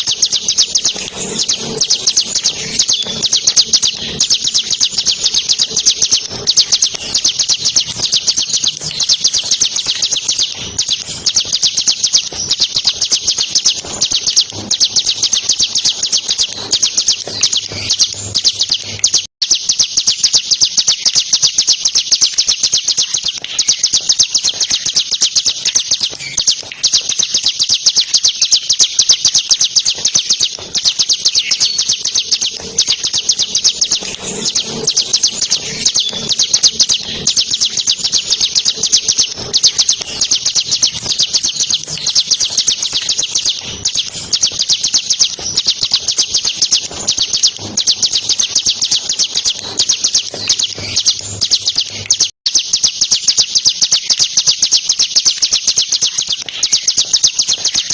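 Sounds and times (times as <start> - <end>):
bird chattering trill: 0.0 - 57.9.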